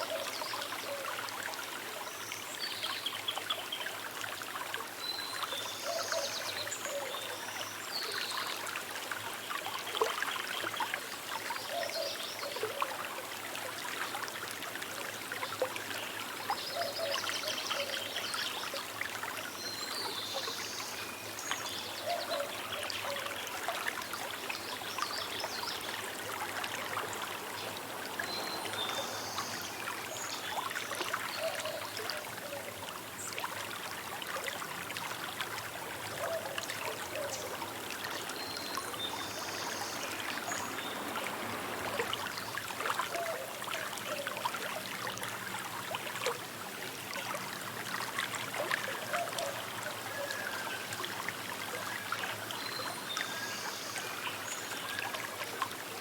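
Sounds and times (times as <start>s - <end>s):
small river flowing: 0.0s - 56.0s.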